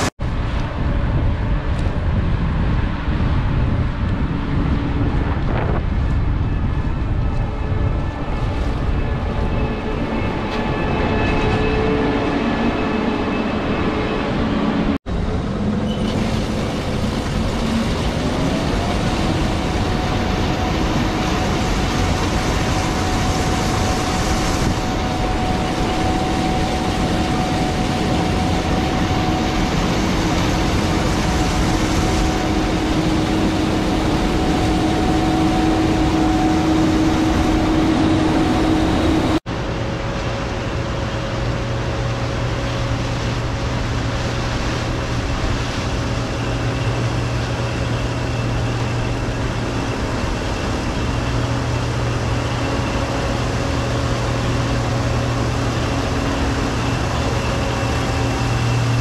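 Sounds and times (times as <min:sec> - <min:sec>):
machine running hum: 0:00.0 - 0:59.0.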